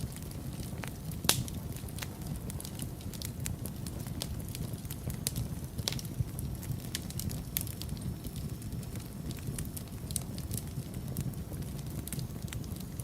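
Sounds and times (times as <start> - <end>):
crackles and pops of burning logs: 0.0 - 13.0
low rumble of flames: 0.0 - 13.0.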